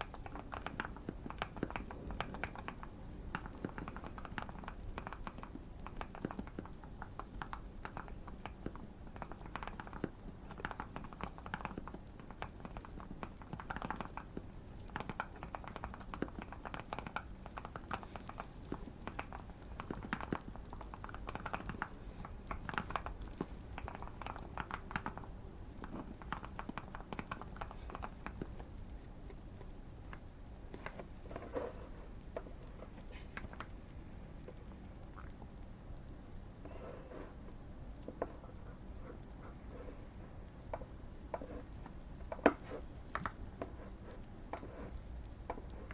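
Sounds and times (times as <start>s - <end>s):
faint crackling fire: 0.0s - 45.9s.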